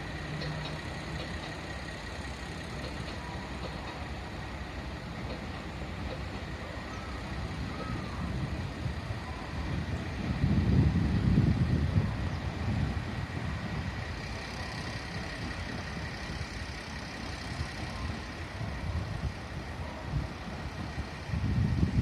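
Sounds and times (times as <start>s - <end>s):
diesel railcar engine rumbling: 0.0s - 22.0s.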